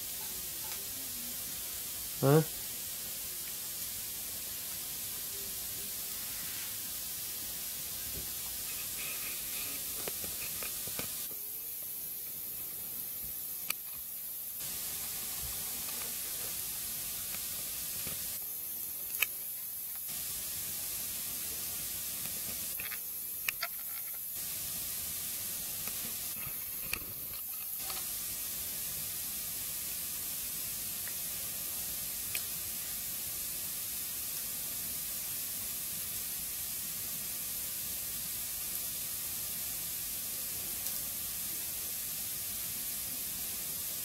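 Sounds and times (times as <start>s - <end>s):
wood fire hissing: 0.0s - 44.0s
fire crackling pops: 0.1s - 5.2s, 6.0s - 43.8s.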